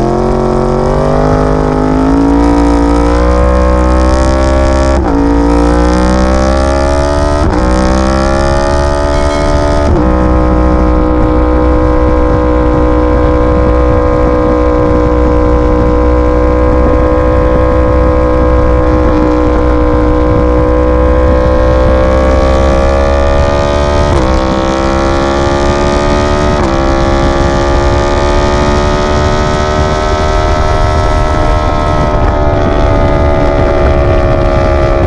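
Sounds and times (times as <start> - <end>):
motorcycle engine accelerating: 0.0 - 35.0
wind rumble on microphone: 0.0 - 35.0.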